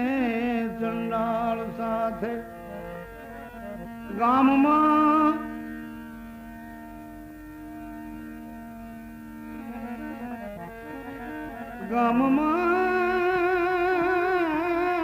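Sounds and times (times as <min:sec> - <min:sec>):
devotional instrumental music: 0:00.0 - 0:15.0.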